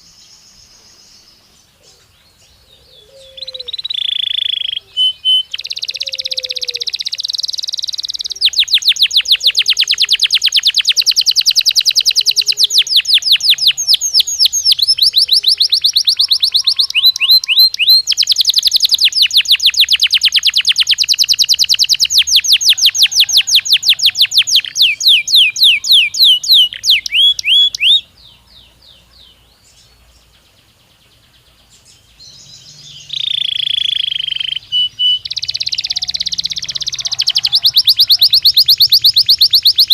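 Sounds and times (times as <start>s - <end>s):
canary singing trills: 0.0s - 39.9s
soft bird twittering: 0.0s - 39.9s.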